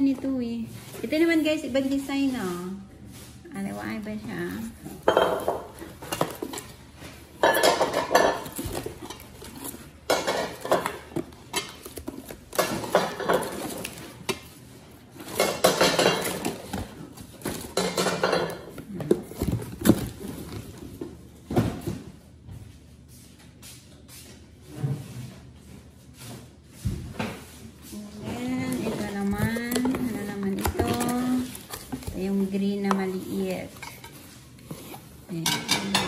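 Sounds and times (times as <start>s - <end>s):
cardboard packing rustling: 0.6s - 22.2s, 27.6s - 35.3s.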